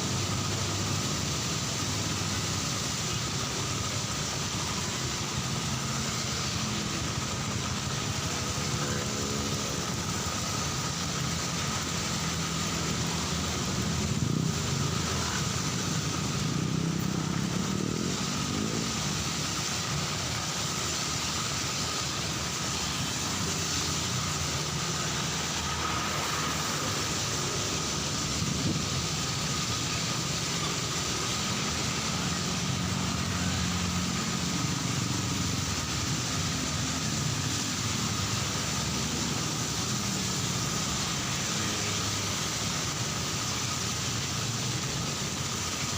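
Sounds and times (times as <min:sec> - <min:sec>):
cars and motorcycles passing: 0:00.0 - 0:45.9
heavy rain falling: 0:00.0 - 0:45.9.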